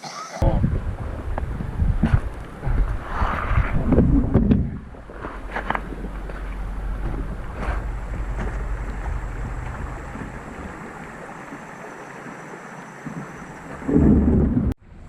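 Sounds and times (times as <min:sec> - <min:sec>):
rushing creek water: 0:00.0 - 0:14.5
wind rumbling on microphone: 0:00.4 - 0:15.0.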